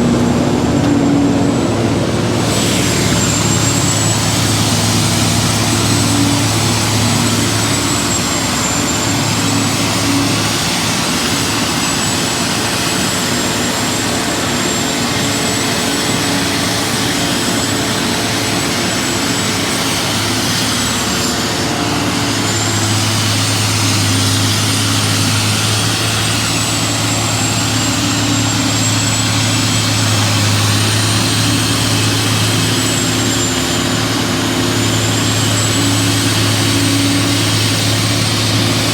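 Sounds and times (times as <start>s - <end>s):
engine running: 0.0s - 38.9s
hay grinding noise: 0.0s - 38.9s
thin high whine: 0.0s - 38.9s.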